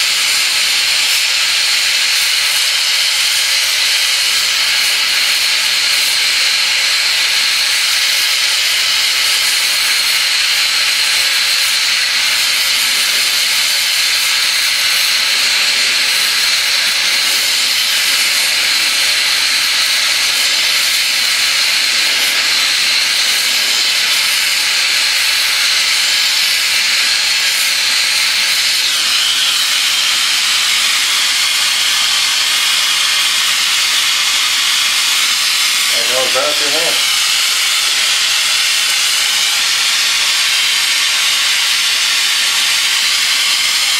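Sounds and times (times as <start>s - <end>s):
torch flame hissing: 0.0s - 43.9s.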